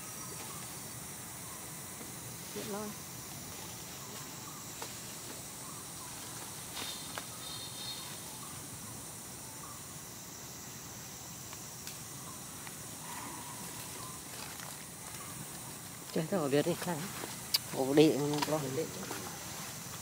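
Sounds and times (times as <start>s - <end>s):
forest background hiss: 0.0s - 20.0s.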